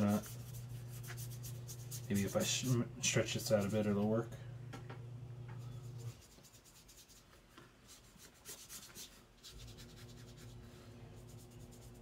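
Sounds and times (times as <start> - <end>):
brush rubbing across paper: 0.0 - 4.0, 5.8 - 12.0
low steady hum: 0.0 - 8.6, 9.4 - 12.0.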